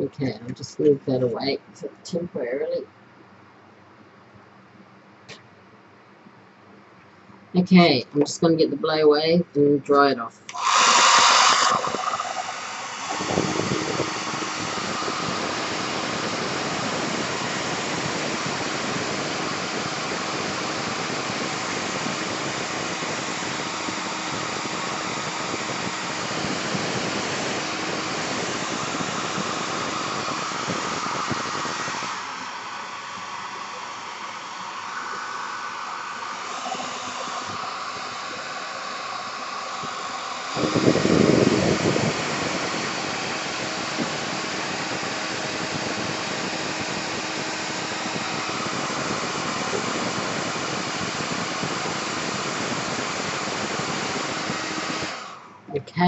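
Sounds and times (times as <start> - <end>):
blow dryer running: 10.4 - 56.0.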